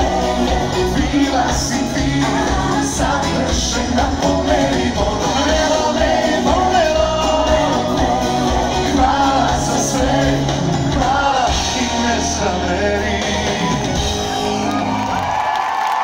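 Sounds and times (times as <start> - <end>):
person singing: 0.0 - 14.7
live pop band playing: 0.0 - 15.5.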